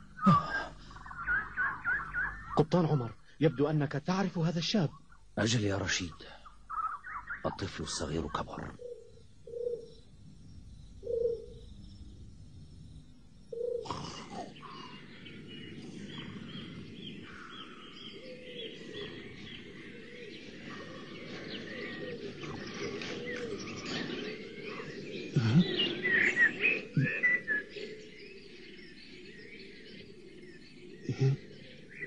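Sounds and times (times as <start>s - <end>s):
low background hum: 0.0s - 27.1s
birds chirping: 0.0s - 32.0s.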